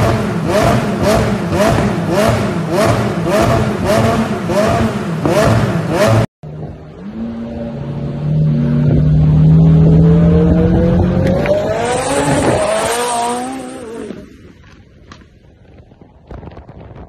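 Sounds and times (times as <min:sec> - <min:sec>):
sports car engine accelerating: 0:00.0 - 0:14.4.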